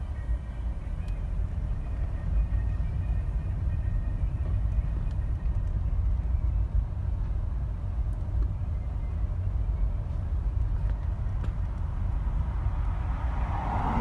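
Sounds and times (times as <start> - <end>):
car low rumble: 0.0 - 14.0.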